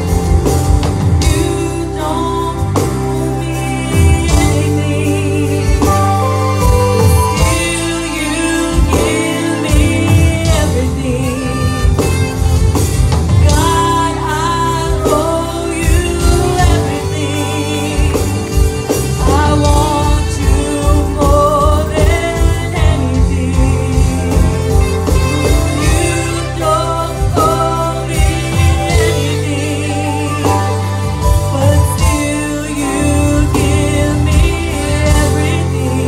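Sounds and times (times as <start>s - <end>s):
musical accompaniment with bass beat: 0.0s - 36.0s
woman singing with vibrato: 0.0s - 36.0s.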